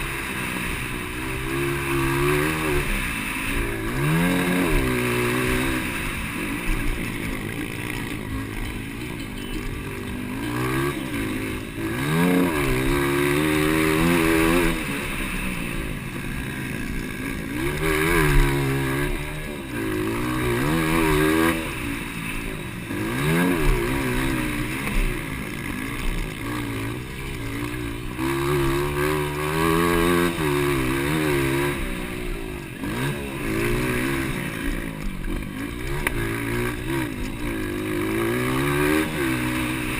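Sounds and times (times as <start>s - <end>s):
motocross bike engines racing: 0.0s - 39.9s.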